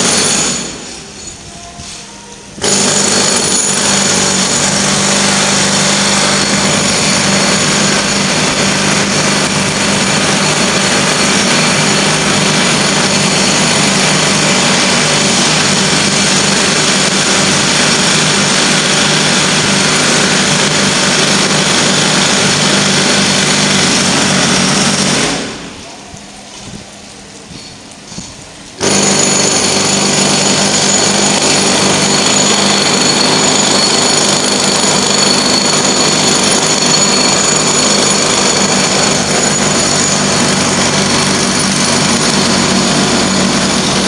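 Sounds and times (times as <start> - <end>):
loud steady machine noise: 0.0 - 27.0, 28.1 - 44.0.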